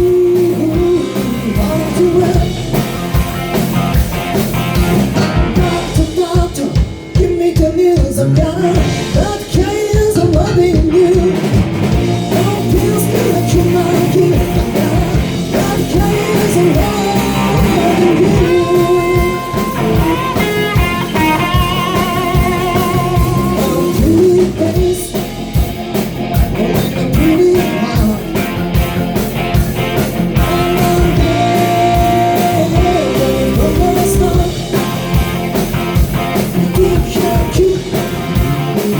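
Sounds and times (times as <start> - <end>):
lead vocal singing: 0.0 - 2.8, 5.5 - 11.6, 12.2 - 25.7, 26.4 - 28.6, 30.2 - 35.2, 36.3 - 38.9
bass guitar: 0.0 - 38.9
drum kit beat: 0.0 - 38.9
electric guitar: 0.0 - 38.9.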